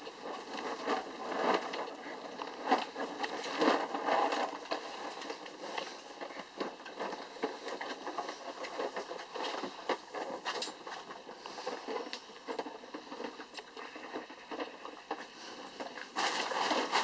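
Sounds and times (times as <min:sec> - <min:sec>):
puppy paws scrabbling: 0:00.0 - 0:17.0.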